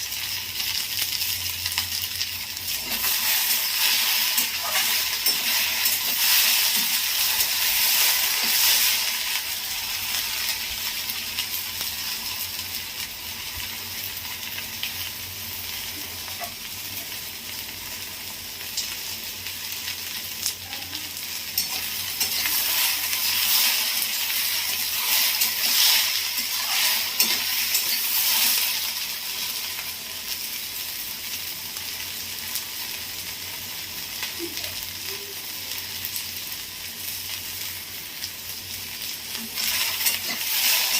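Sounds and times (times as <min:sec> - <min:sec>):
okra sizzling in hot oil: 0:00.0 - 0:40.9.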